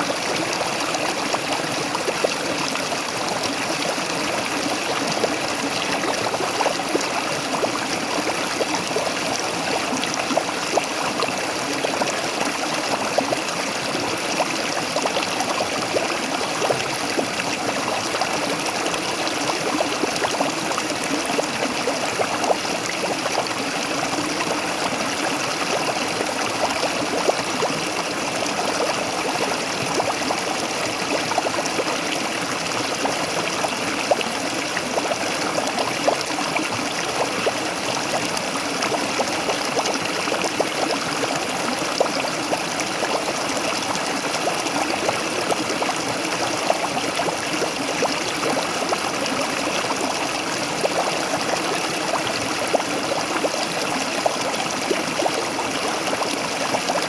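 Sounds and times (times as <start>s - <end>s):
waterfall splashing and gurgling: 0.0s - 57.0s.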